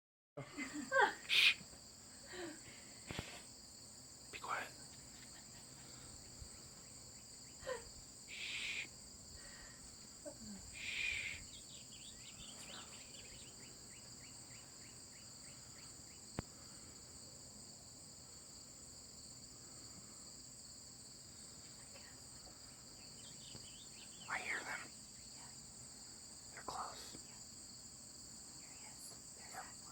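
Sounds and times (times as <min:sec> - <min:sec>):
insect chorus: 0:00.4 - 0:29.9.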